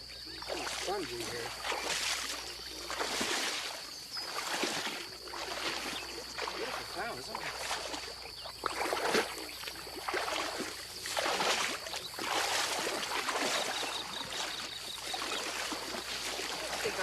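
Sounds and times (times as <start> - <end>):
people wading through water: 0.0 - 17.0.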